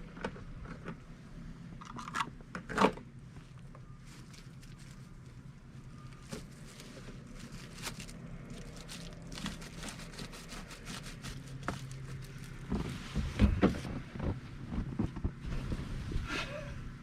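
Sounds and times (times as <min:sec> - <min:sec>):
engine running low hum: 0:00.0 - 0:17.0.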